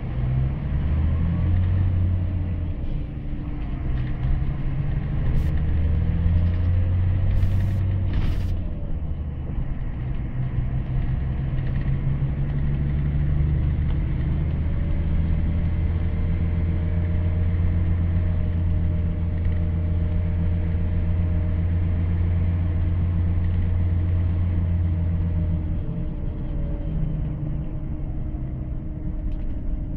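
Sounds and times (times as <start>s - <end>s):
bus diesel engine droning: 0.0s - 29.9s
road noise: 0.0s - 29.9s.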